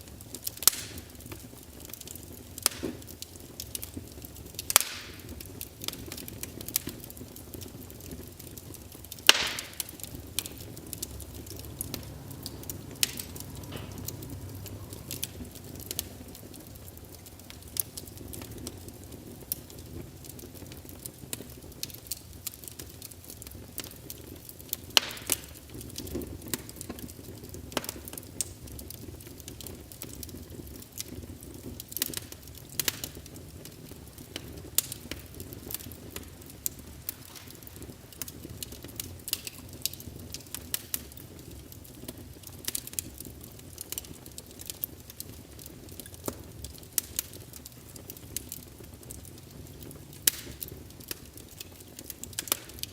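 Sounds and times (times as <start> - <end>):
hiss of burning: 0.0 - 52.9
wood fire crackling and popping: 0.0 - 52.9.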